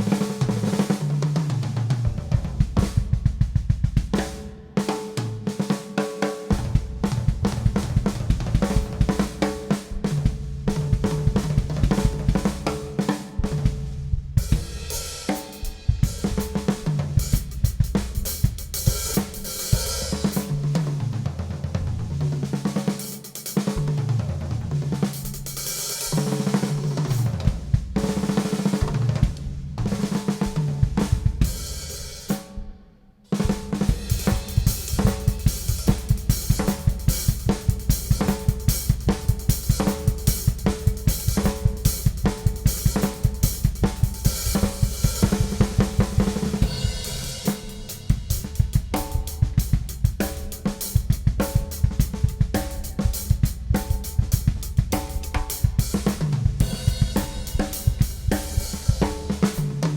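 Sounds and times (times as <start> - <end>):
drum kit playing: 0.0 - 32.5, 33.3 - 59.9
bass drum snare and cymbals groove: 0.0 - 32.7, 33.3 - 59.9.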